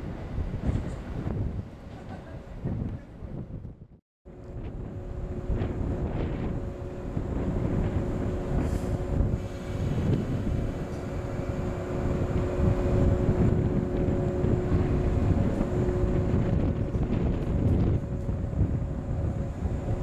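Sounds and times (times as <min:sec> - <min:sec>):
train humming: 0:00.0 - 0:20.0
wind buffeting microphone: 0:00.0 - 0:20.0.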